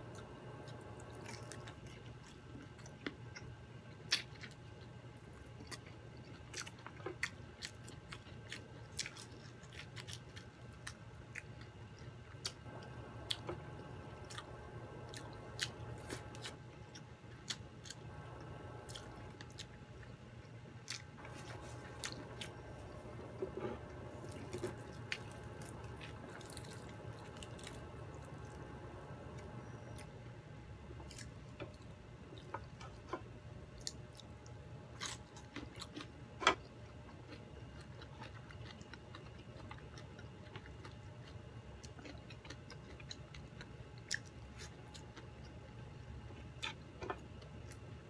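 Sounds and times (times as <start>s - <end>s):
crunchy chewing: 0.0s - 30.4s, 31.0s - 48.0s.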